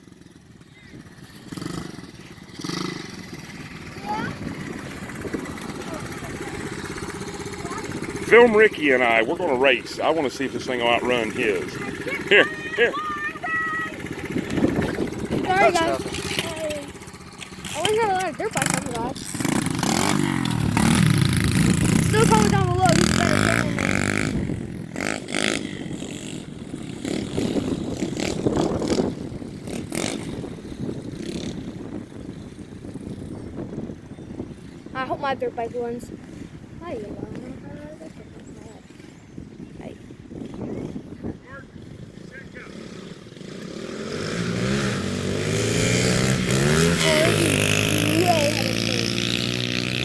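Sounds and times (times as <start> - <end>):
dirt bike engines running: 0.0 - 50.0
wind buffeting microphone: 0.0 - 50.0.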